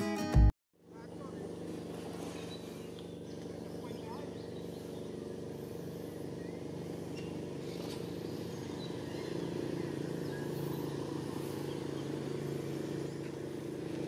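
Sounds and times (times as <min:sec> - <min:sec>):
low engine hum: 0:00.1 - 0:14.0.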